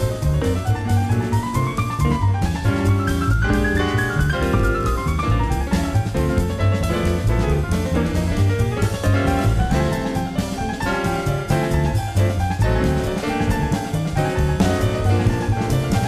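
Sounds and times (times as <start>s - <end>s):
jazz fusion band playing: 0.0s - 16.0s.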